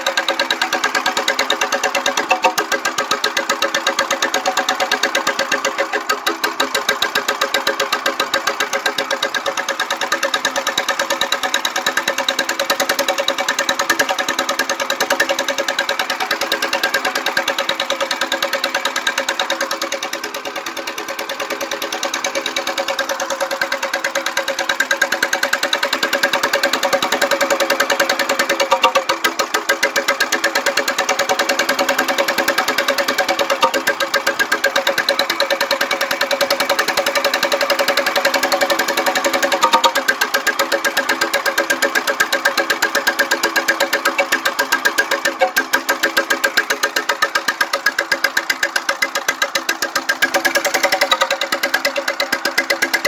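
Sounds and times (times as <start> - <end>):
single-cylinder engine running: 0.0 - 53.0.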